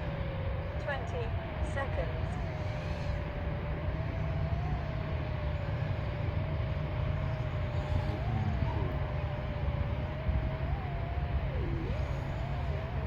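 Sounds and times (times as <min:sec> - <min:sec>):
quadcopter motors whining: 0:00.0 - 0:13.0
wind rumble: 0:00.0 - 0:13.0.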